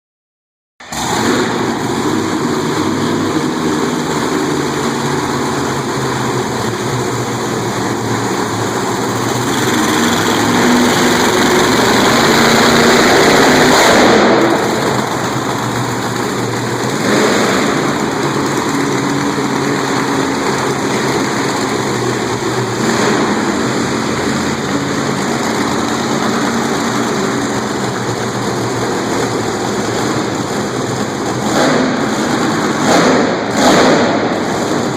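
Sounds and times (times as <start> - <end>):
monster truck engine running: 0.8 - 34.9.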